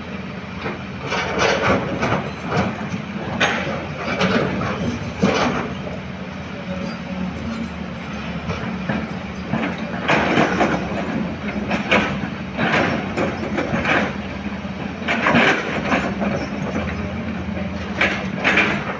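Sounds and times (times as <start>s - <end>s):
diesel engine hum: 0.0s - 18.9s.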